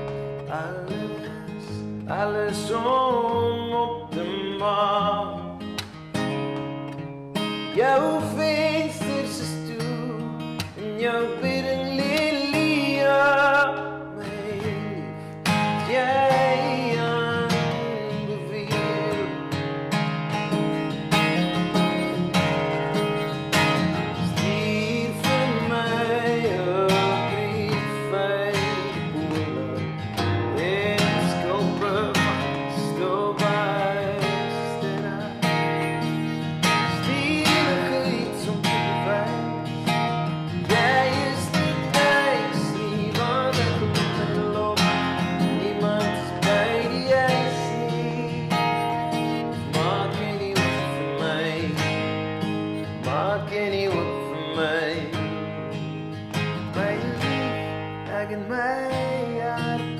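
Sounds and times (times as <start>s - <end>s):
song on strummed acoustic guitar: 0.0s - 59.9s.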